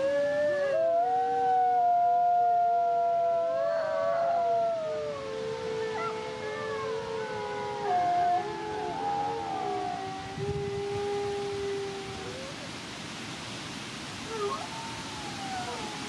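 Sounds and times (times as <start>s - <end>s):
wolves howling: 0.0s - 12.7s, 14.3s - 16.0s.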